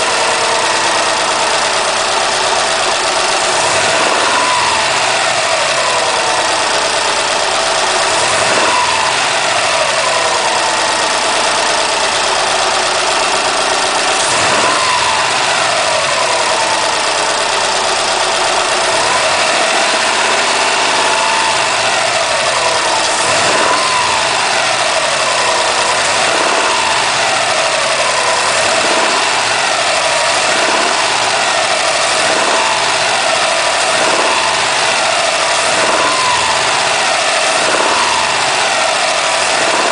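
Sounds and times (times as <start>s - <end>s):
car engine revving: 0.0s - 39.9s
odd motor noise: 0.0s - 39.9s.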